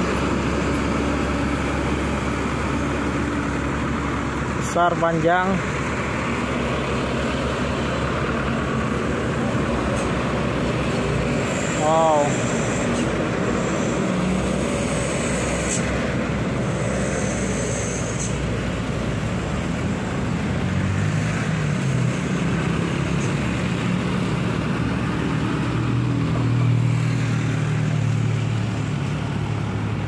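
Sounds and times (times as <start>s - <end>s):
diesel engines running: 0.0s - 30.0s
trucks and cars climbing a hill: 0.0s - 30.0s.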